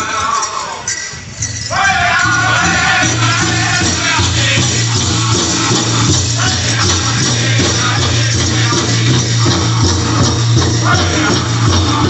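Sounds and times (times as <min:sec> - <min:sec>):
group singing: 0:00.0 - 0:01.0, 0:01.7 - 0:12.0
big drum beat: 0:01.8 - 0:12.0.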